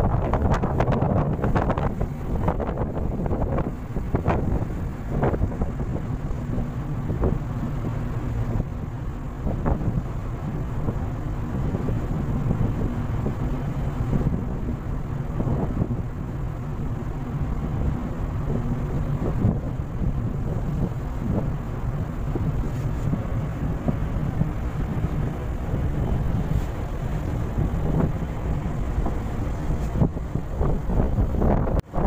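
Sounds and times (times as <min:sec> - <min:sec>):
rushing wind: 0:00.0 - 0:32.0
ship engine hum: 0:00.0 - 0:32.0
wind gusting on microphone: 0:00.0 - 0:32.0.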